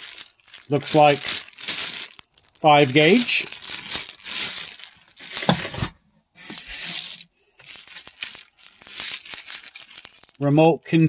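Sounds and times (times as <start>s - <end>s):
plastic bags crinkling: 0.0s - 10.6s.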